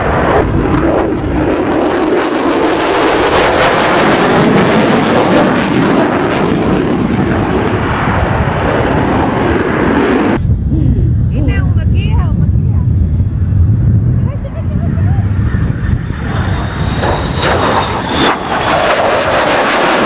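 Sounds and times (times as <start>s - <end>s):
jet engine roaring in afterburner: 0.0s - 20.0s.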